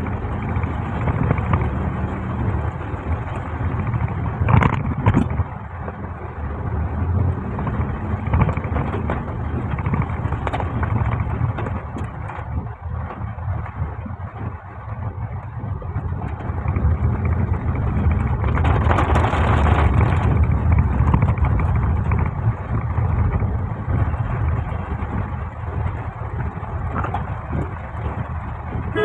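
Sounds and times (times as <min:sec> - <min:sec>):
car engine rumbling: 0:00.0 - 0:29.0
road noise on wet roads: 0:00.0 - 0:29.0.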